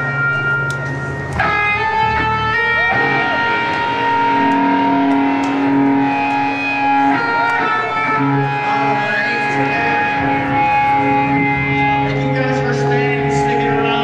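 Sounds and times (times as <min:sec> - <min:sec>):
electric guitars ringing chords: 0:00.0 - 0:14.0.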